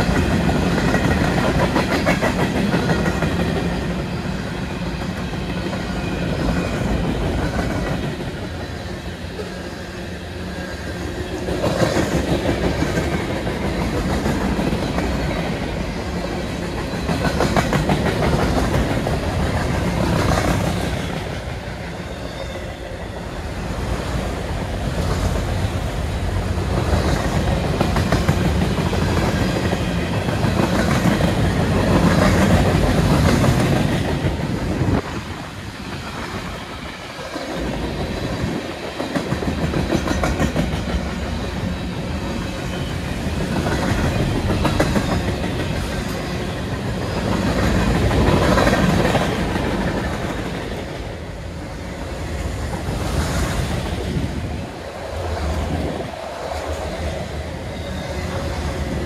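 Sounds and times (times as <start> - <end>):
freight train wheels clicking over rail joints: 0.0 - 9.6, 10.5 - 22.0, 23.7 - 51.3.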